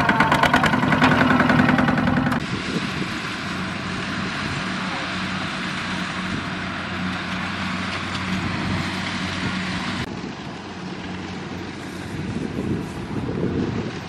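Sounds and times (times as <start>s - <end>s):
diesel engine humming: 0.0s - 14.0s
loud outdoor hiss: 0.0s - 14.0s.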